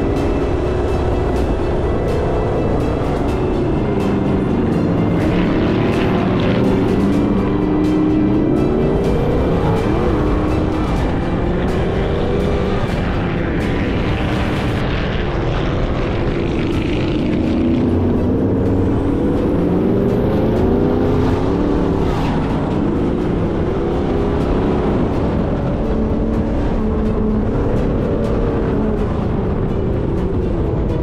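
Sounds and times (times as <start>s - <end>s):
engine revving: 0.0s - 31.0s
low rumble: 0.0s - 31.0s.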